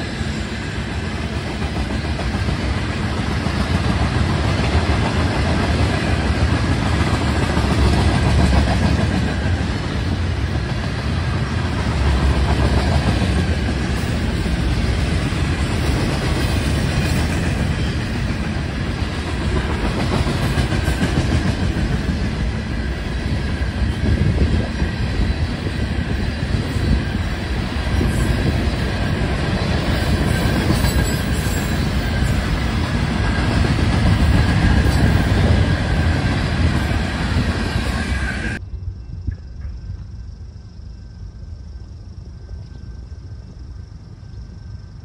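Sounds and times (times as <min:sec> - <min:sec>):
train wheels rumbling and clacking: 0:00.0 - 0:38.6.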